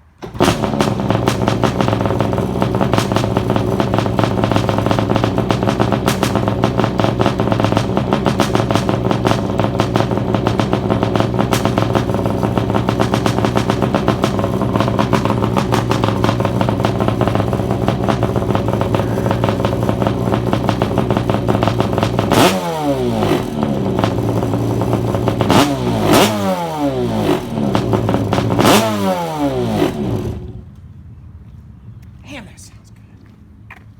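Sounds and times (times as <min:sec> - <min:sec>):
jet ski two-stroke engine running: 0:00.2 - 0:30.5.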